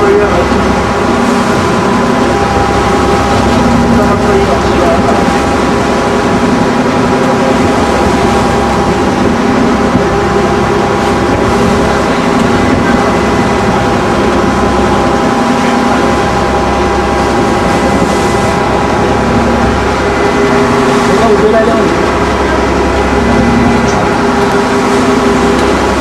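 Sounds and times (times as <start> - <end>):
ferry boat engine humming: 0.0 - 26.0.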